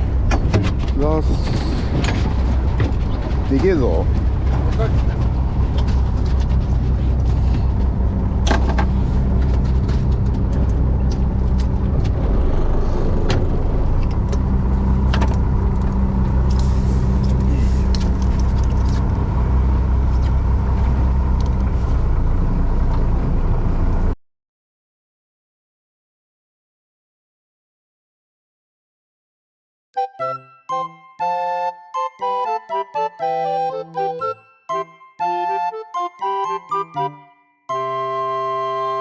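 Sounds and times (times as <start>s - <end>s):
boat engine humming: 0.0s - 24.1s, 30.7s - 39.0s.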